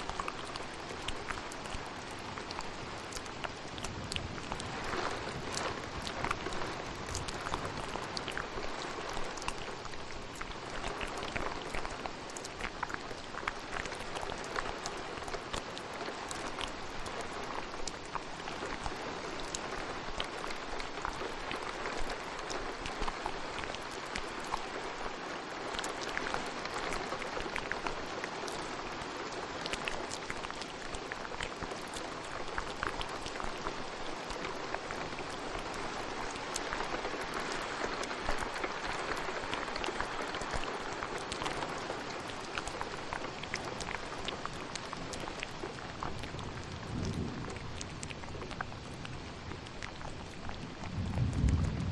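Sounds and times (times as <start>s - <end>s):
steady rain: 0.0s - 51.9s.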